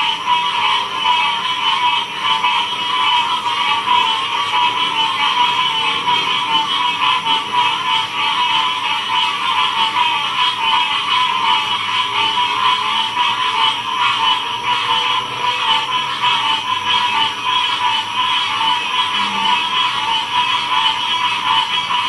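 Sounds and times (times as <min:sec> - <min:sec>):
chorus of frogs calling: 0:00.0 - 0:22.0.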